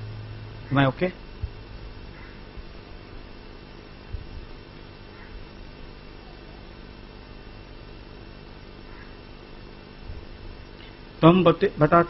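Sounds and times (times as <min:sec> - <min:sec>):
electrical mains hum and hiss: 0:00.0 - 0:12.0.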